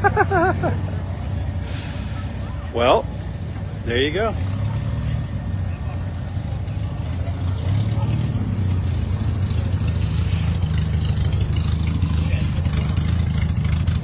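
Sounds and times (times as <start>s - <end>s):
car engine running at low speed: 0.0s - 14.0s.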